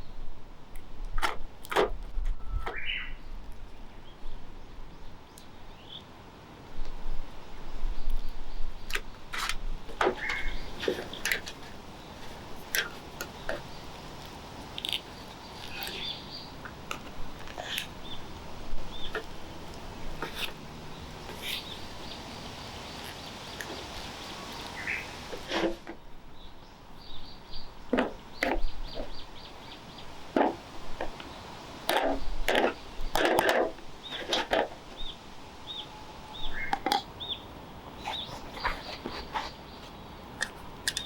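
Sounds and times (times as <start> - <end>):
birds chirping: 2.3 - 6.1, 7.9 - 41.0.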